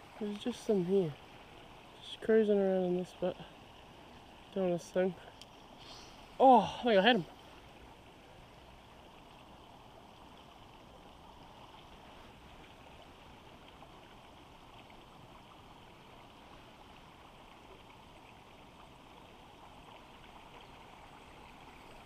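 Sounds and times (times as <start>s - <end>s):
river flowing over stones: 0.0s - 22.0s.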